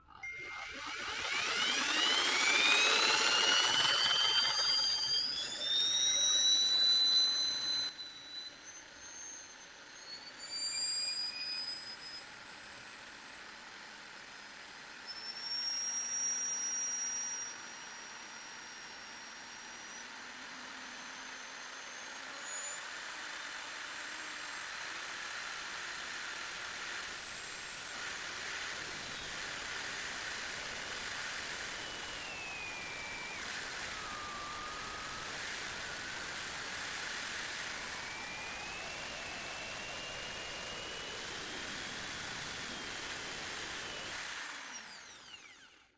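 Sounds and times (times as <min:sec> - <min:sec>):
electric drill whining: 0:00.0 - 0:45.9.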